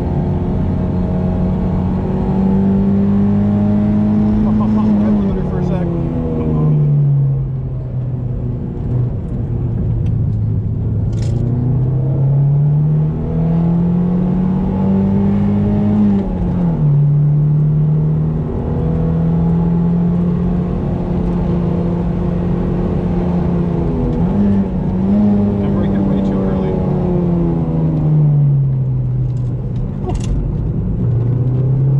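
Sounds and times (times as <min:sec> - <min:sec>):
car engine accelerating: 0:00.0 - 0:31.9.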